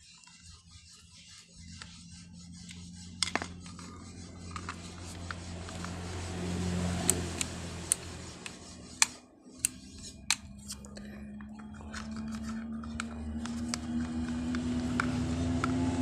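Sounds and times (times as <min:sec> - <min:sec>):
low steady hum: 0:01.6 - 0:16.0.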